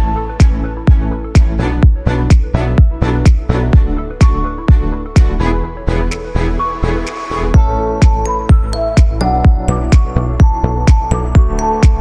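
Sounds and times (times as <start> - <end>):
steady kick drum: 0.0 - 5.4, 7.6 - 12.0
electronic music: 0.0 - 12.0.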